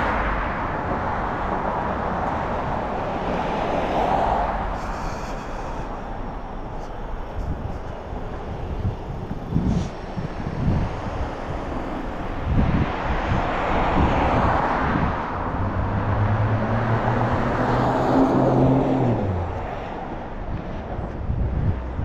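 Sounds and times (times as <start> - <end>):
road traffic passing: 0.0 - 22.0
vehicle engine hum passing by: 0.0 - 22.0.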